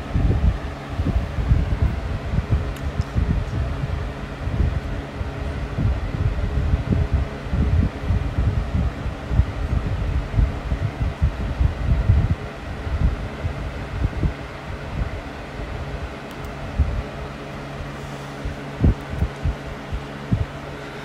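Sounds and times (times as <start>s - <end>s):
wind buffeting microphone: 0.0s - 17.2s, 18.4s - 20.7s
box fan running: 0.0s - 21.0s.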